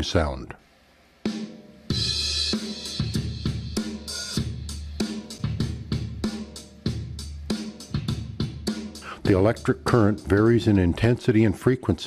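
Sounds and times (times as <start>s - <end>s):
percussion-heavy music: 1.3s - 11.7s.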